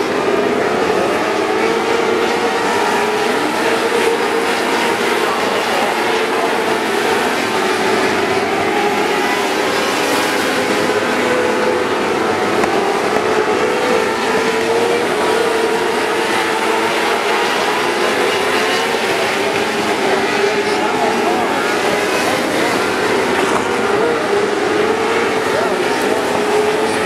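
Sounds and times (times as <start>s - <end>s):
racing car engines: 0.0s - 27.0s.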